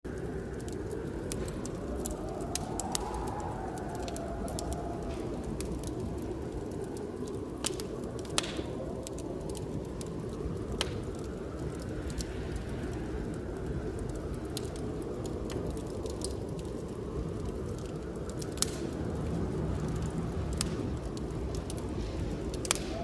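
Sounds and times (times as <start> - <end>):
blizzard wind with low rumble: 0.0 - 23.0
whistling wind gust: 0.0 - 23.0
wood fire crackling: 0.0 - 23.0.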